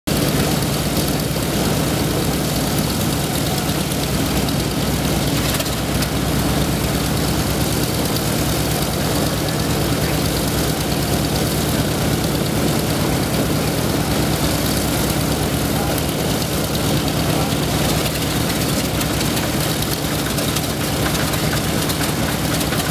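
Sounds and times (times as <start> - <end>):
propeller engines droning: 0.1 - 22.9.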